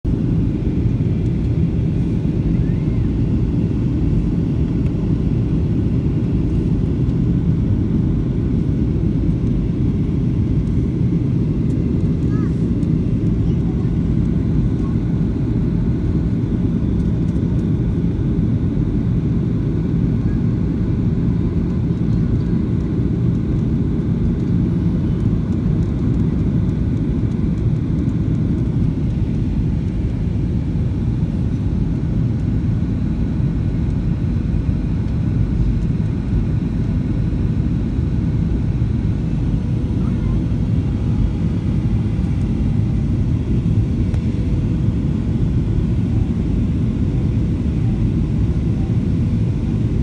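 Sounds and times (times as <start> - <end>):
airliner cabin engine rumble: 0.1 - 50.0.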